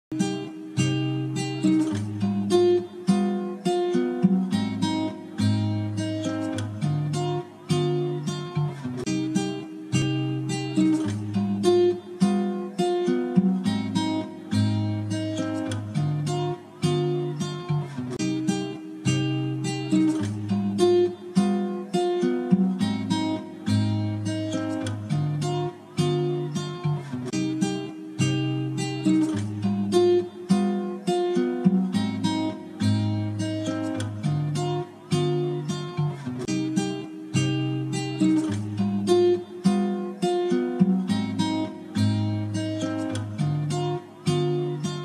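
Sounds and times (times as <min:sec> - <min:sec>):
acoustic guitar melody: 0:00.0 - 0:45.0.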